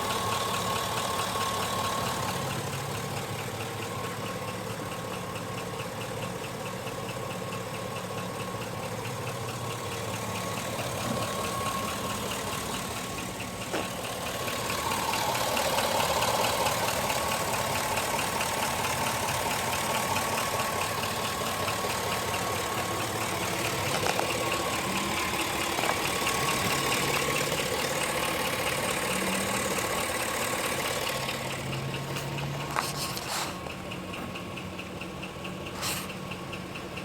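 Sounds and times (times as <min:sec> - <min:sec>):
pickup engine idling with knock: 0:00.0 - 0:37.0.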